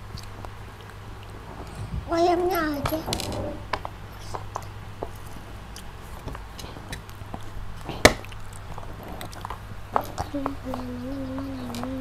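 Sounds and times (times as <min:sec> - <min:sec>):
children chewing: 0:00.0 - 0:12.0.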